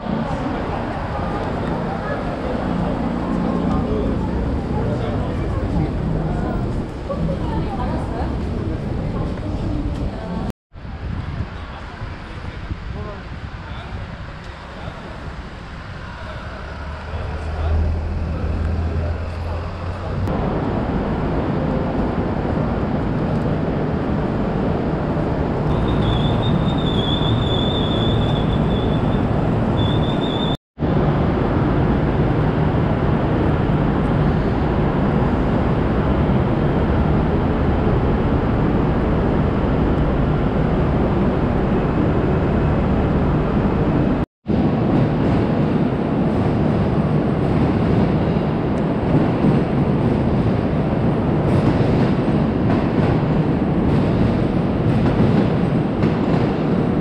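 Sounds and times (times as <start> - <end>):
rail vehicle running on tracks: 0.0 - 57.0.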